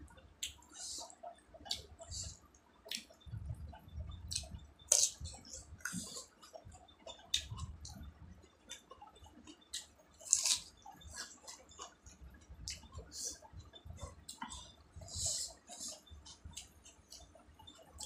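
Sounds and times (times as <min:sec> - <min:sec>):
wet chewing and lip smacking: 0:00.4 - 0:18.0.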